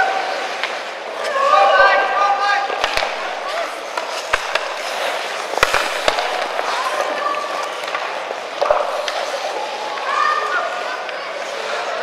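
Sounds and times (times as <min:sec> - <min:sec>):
hockey sticks and puck clacking: 0:00.0 - 0:12.0
skates scraping on ice: 0:00.0 - 0:12.0.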